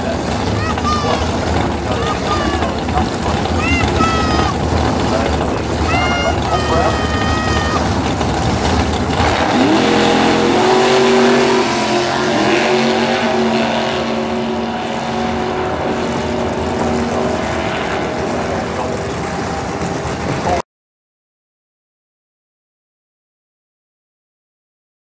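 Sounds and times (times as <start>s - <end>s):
drag car engine accelerating: 0.0s - 20.6s.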